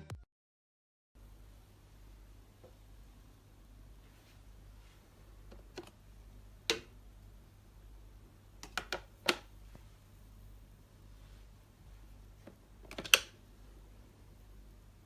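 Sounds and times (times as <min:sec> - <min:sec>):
low steady hum: 0:01.2 - 0:15.0.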